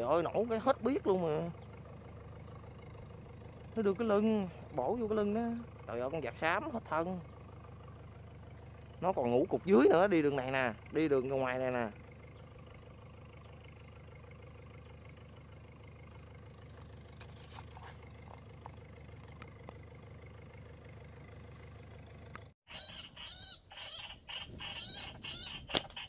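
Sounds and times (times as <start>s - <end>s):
bird calling arching notes: 0.0s - 26.0s
low outdoor rumble: 0.0s - 26.0s.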